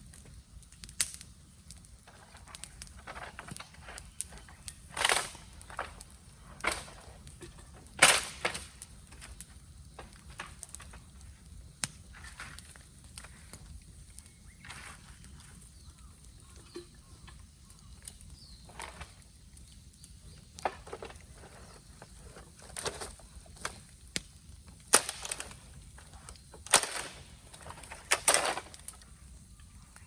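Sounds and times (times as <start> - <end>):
bamboo crackling and popping in fire: 0.0 - 30.0.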